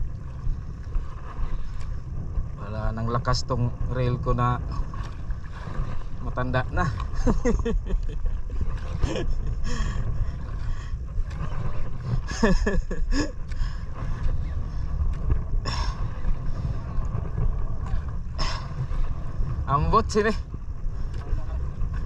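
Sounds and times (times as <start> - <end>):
wind and sea rumble: 0.0 - 22.0.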